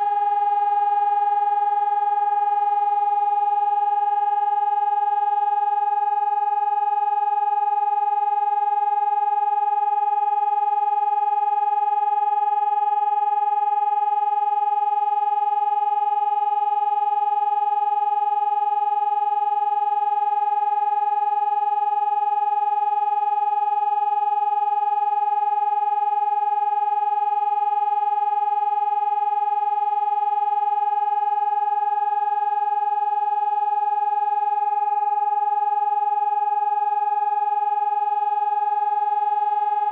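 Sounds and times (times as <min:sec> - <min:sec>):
steady siren tone: 0:00.0 - 0:39.9.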